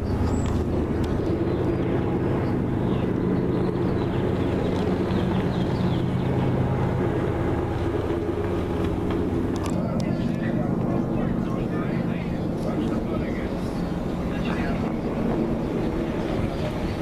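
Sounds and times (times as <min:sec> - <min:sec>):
low engine-like drone: 0:00.0 - 0:17.0.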